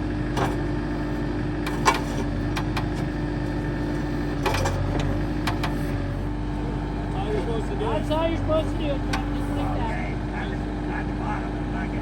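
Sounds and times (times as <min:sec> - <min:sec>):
backhoe loader engine humming: 0:00.0 - 0:12.0.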